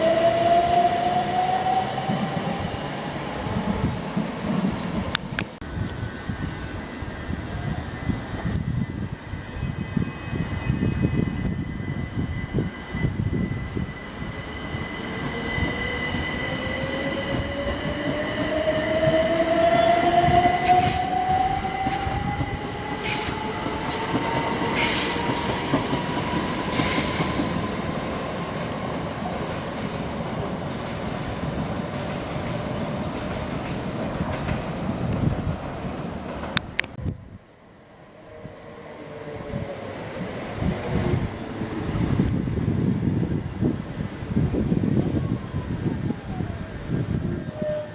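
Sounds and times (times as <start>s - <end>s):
train whine climbing in pitch: 0.0s - 47.9s.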